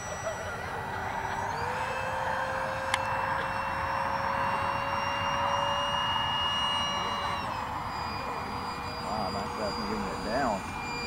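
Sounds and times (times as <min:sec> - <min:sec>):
electric ducted fan whining: 0:00.0 - 0:11.0.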